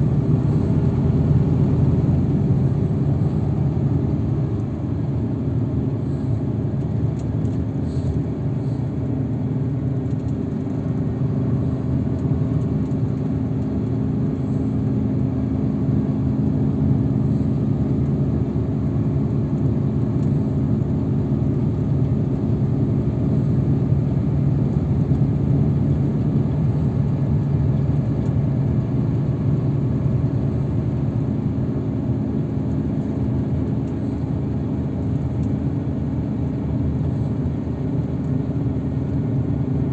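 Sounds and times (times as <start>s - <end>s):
road noise rumble: 0.0s - 39.9s
vehicle engine hum: 0.0s - 39.9s.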